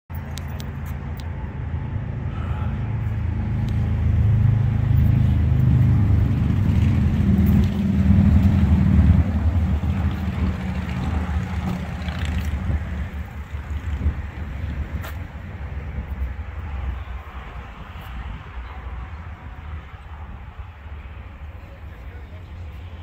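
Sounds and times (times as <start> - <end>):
wind buffeting microphone: 3.1 - 23.0.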